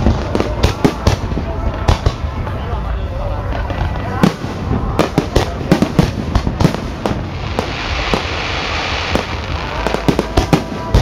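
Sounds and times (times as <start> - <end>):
fireworks bangs: 0.0 - 11.0
fireworks hissing: 0.0 - 11.0.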